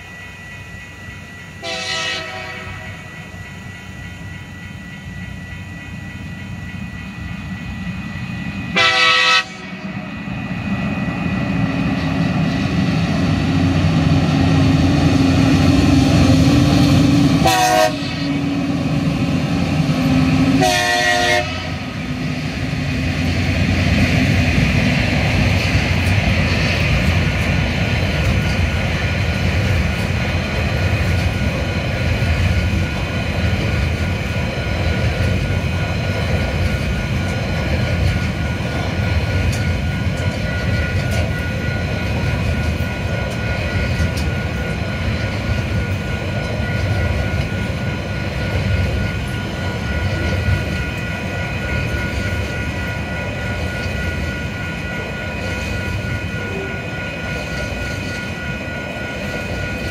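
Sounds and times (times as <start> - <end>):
freight train rolling on rails: 0.0 - 59.9
high-pitched ringing tones: 0.0 - 59.9
rail clicks: 0.0 - 59.9.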